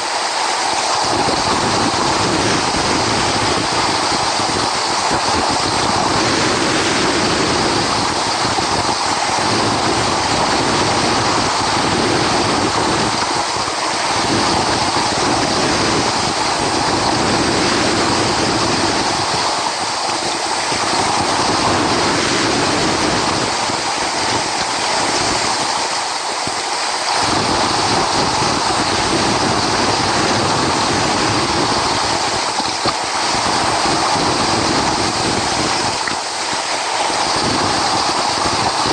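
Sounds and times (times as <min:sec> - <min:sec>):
ocean surf rushing: 0:00.0 - 0:38.9.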